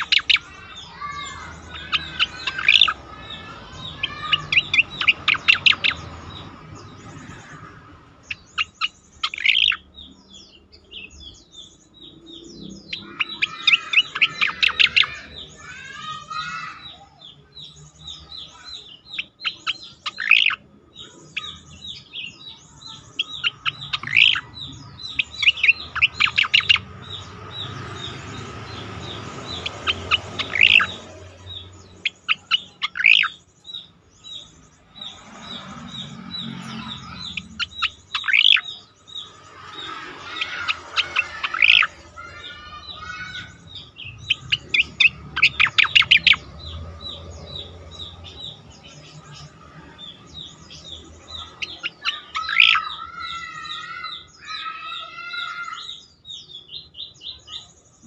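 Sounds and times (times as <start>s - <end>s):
bird singing chirps and whistles: 0.0s - 7.5s, 8.3s - 17.0s, 17.6s - 57.8s.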